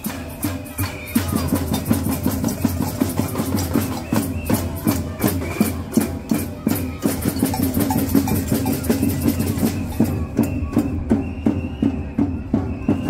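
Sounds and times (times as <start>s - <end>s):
drums and hand percussion: 0.0s - 13.0s
street band music: 0.0s - 13.0s.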